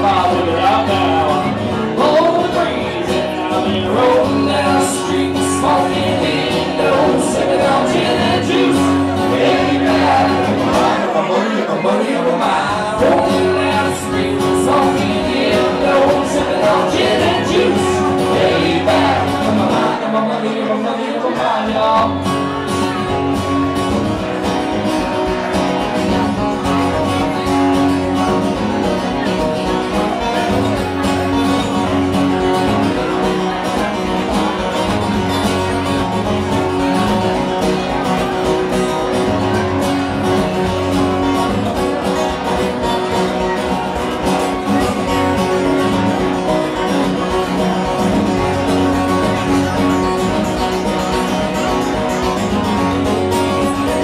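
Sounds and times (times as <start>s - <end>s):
acoustic guitars strumming: 0.0s - 54.0s.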